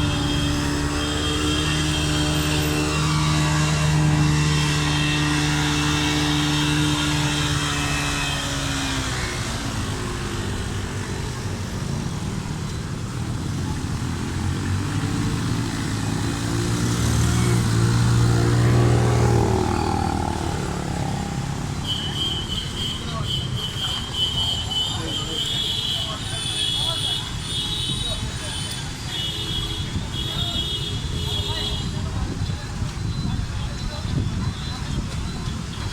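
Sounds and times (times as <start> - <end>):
vehicle engines passing: 0.0 - 35.9.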